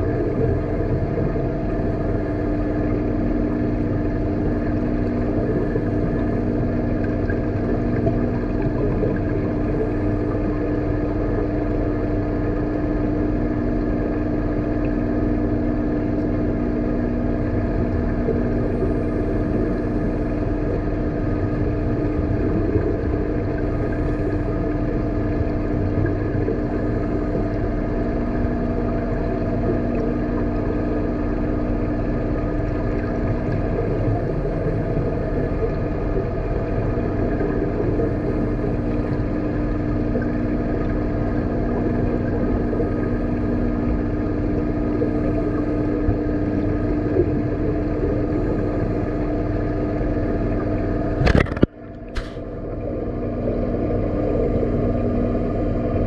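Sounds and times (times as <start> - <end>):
aquarium water pumps humming: 0.0 - 56.0.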